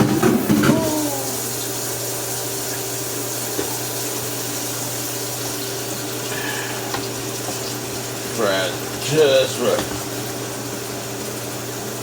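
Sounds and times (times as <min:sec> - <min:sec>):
fries sizzling in hot oil: 0:00.0 - 0:12.0.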